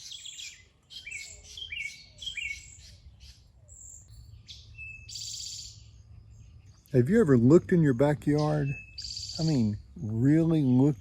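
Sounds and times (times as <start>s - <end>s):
birds chirping and singing: 0.0s - 11.0s
buzzy bird trill: 0.0s - 11.0s.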